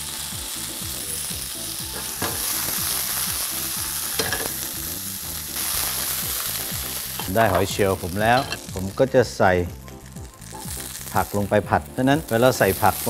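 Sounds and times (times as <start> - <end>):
scallops sizzling in a pan: 0.0 - 13.0.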